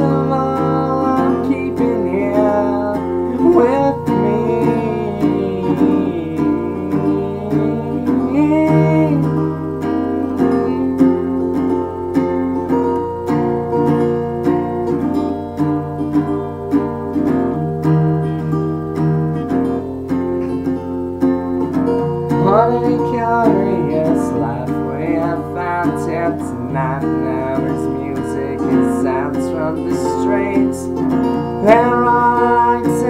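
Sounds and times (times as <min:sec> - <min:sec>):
guitar strumming chords: 0:00.0 - 0:33.0.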